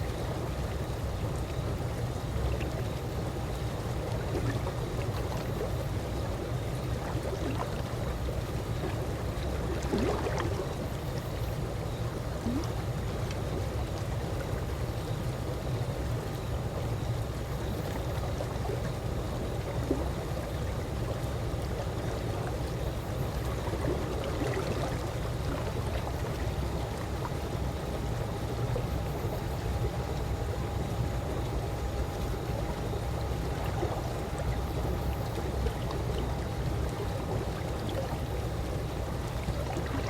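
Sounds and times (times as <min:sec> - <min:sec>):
pool water lapping and trickling: 0:00.0 - 0:40.0.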